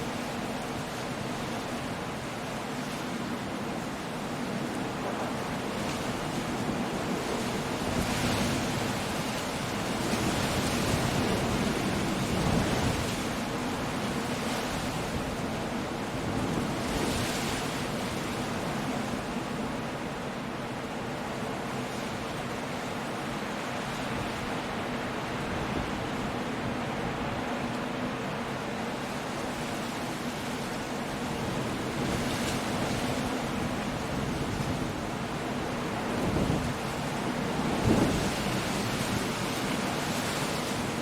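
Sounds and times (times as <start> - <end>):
surf on rocky coast: 0.0 - 41.0
wind: 0.0 - 41.0.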